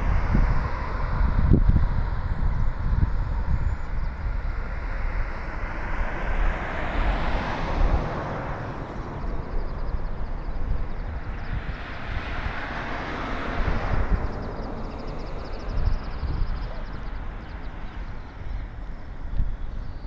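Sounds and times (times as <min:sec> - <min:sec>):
road traffic passing: 0:00.0 - 0:20.0
wind rumbling on microphone: 0:00.0 - 0:20.0.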